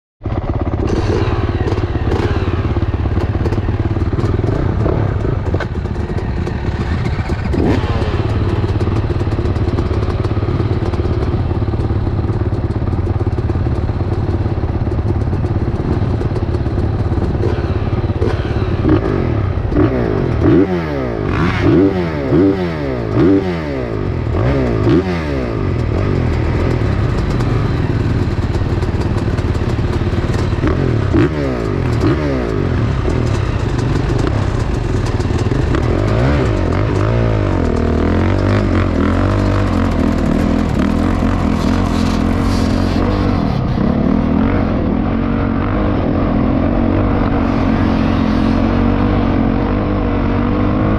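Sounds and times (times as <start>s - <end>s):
motorcycle engine revving: 0.2s - 50.9s.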